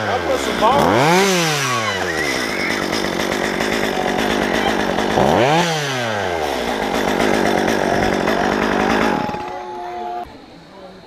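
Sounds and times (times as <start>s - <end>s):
chainsaw engine revving: 0.0s - 10.3s.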